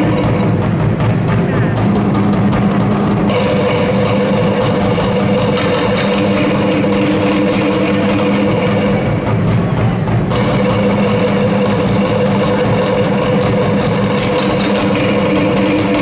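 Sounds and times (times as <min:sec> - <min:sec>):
sticks beating drums: 0:00.0 - 0:16.0.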